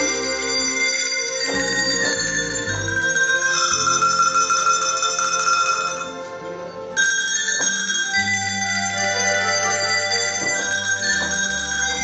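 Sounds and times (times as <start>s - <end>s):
tuned cowbells ringing: 0.0s - 6.2s, 7.0s - 12.0s.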